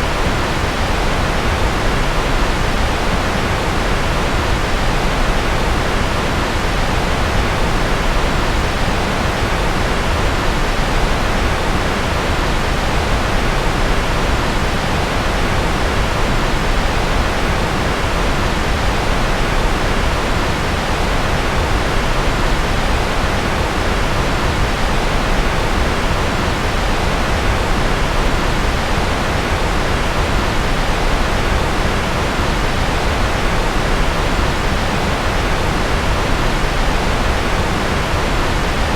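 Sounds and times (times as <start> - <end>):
steady white noise: 0.0 - 38.9.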